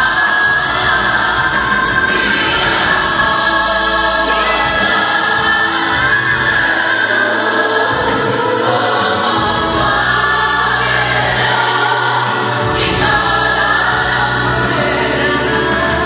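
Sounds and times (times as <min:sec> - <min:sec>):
bass voice holding long notes: 0:00.0 - 0:16.0
gospel group singing in harmony: 0:00.0 - 0:16.0.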